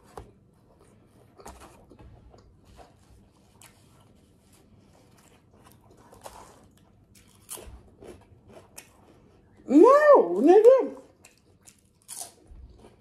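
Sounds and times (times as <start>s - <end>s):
person chewing: 0.8s - 9.7s, 11.1s - 13.0s.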